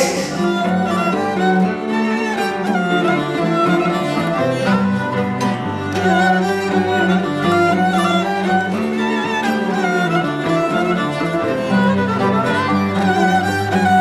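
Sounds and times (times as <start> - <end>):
bowed string music: 0.0 - 14.0.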